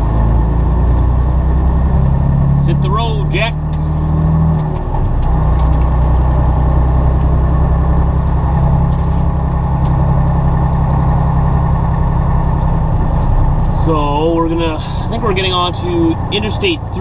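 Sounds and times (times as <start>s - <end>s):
truck diesel engine pulling away: 0.0s - 17.0s.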